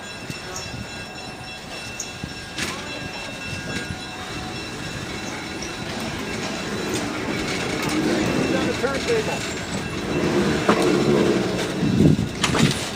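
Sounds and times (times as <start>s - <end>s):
railroad cars rumbling: 0.0s - 12.9s.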